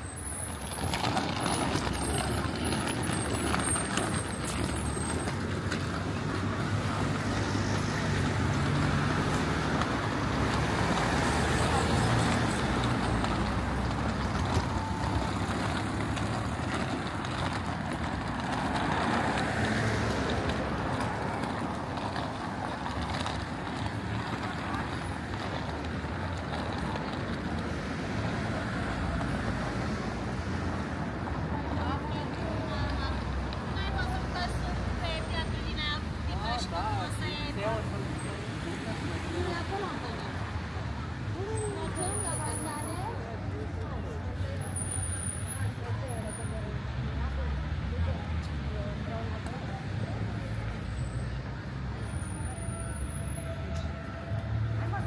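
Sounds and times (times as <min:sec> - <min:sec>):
road traffic rumble: 0:00.0 - 0:55.0
vehicle approaching: 0:00.0 - 0:55.0
vehicle engines running: 0:00.0 - 0:55.0.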